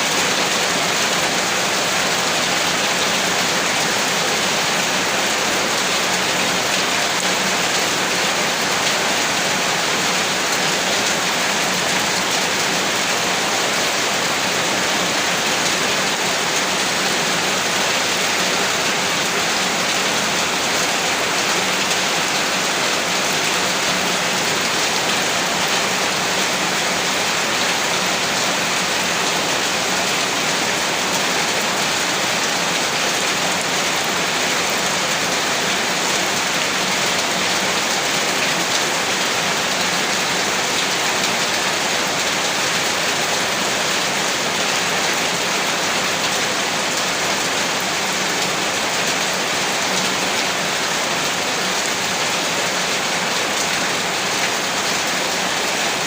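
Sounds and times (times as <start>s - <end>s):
rain on a rooftop: 0.0s - 56.0s.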